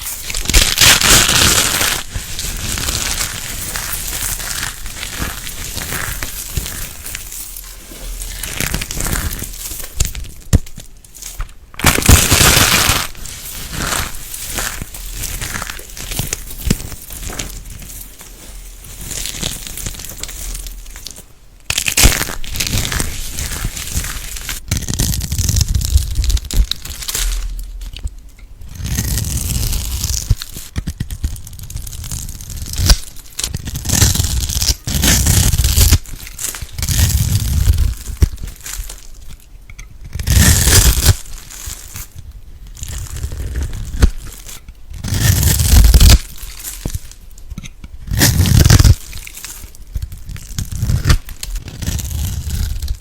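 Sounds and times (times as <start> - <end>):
crunching and crackling slime: 0.0 - 53.0.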